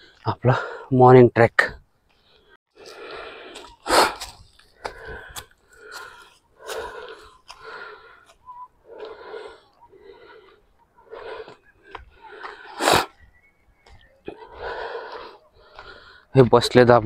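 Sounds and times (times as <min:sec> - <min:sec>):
man breathing heavily: 0:00.0 - 0:00.9, 0:02.1 - 0:13.2, 0:14.2 - 0:16.4.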